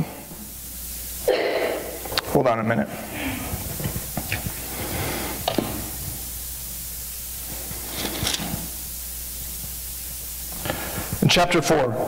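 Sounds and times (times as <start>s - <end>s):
open microphone hiss and hum: 0.0s - 12.0s.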